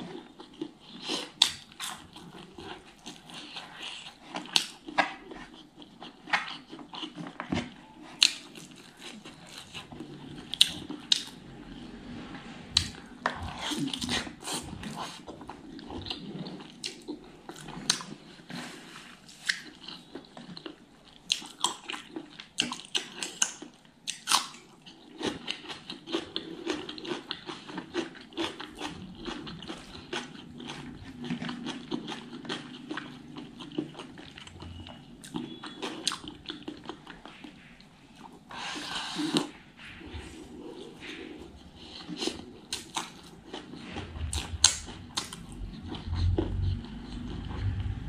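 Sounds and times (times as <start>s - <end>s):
close chewing: 0.0s - 11.8s, 12.7s - 18.7s, 19.3s - 37.6s, 40.7s - 48.0s.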